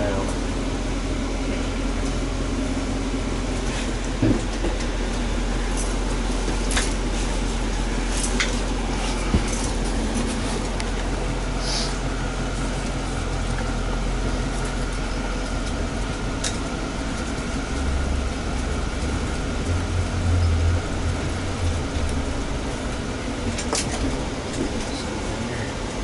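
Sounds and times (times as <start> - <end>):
faint steady whine: 0.0 - 26.0
vehicle engine rumble: 0.0 - 26.0.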